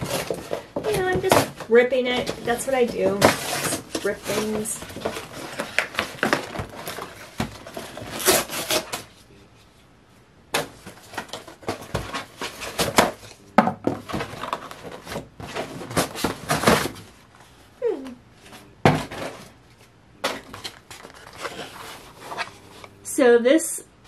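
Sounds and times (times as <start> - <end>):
cardboard and plastic crackling: 0.0 - 9.2, 10.6 - 17.4, 18.8 - 23.0.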